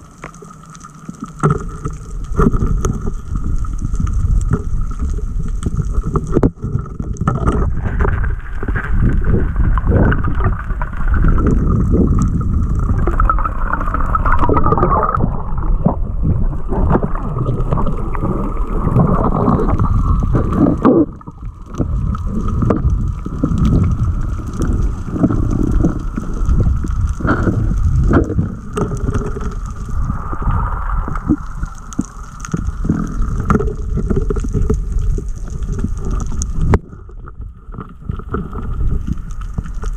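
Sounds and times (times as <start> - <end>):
muffled underwater water gurgling: 0.0 - 39.9.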